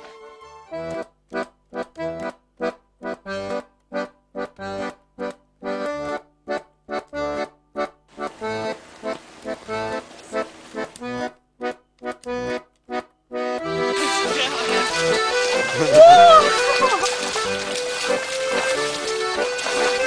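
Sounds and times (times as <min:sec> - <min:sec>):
bouncy tune in detached chords: 0:00.6 - 0:08.7, 0:11.0 - 0:20.0.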